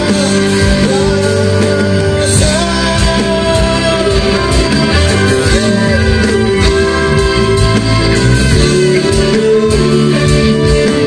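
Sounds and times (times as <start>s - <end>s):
live band music: 0.0s - 11.0s.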